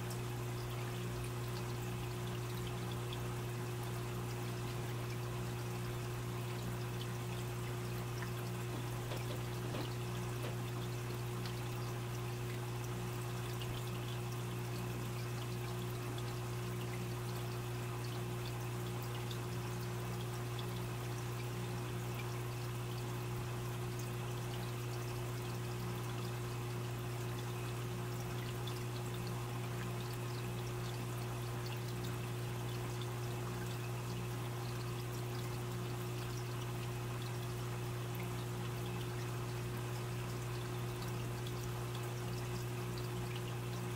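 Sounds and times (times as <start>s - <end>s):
constant low hum: 0.0s - 43.9s
water trickling into tank: 0.0s - 43.9s.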